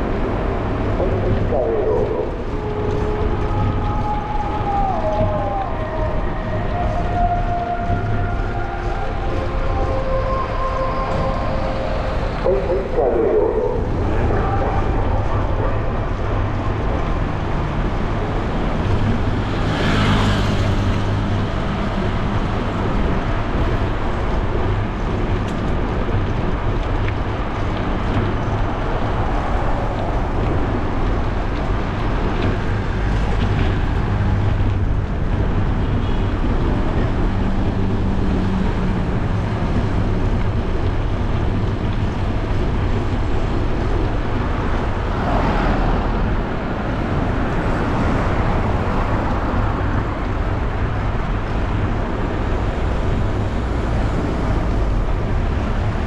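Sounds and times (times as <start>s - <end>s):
car traffic: 0.0s - 56.0s
wind rumble on microphone: 0.0s - 56.0s.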